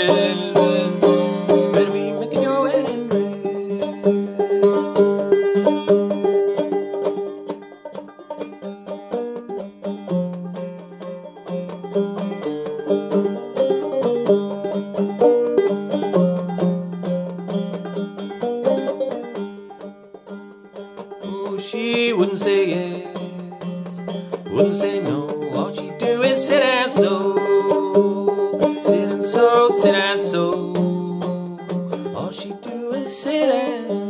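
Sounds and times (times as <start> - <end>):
banjo picking and strumming: 0.0 - 34.0.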